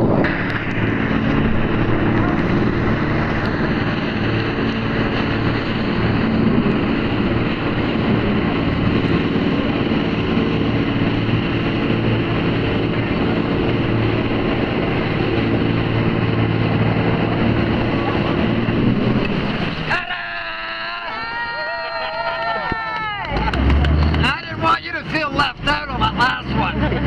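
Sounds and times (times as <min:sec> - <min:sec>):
boat engine running: 0:00.0 - 0:27.0
wind and water rushing: 0:00.0 - 0:27.0.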